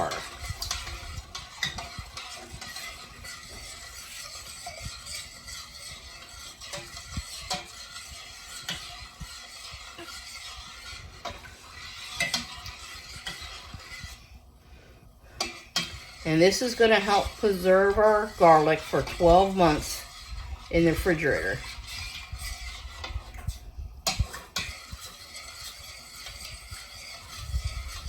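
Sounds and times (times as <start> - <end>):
spoon stirring and scraping pot: 0.0 - 28.0.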